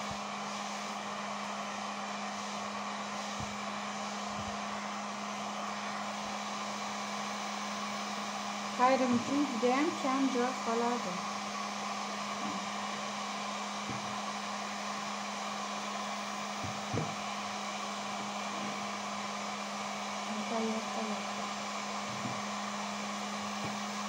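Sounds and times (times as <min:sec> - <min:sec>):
hot-air dryer running: 0:00.0 - 0:24.0.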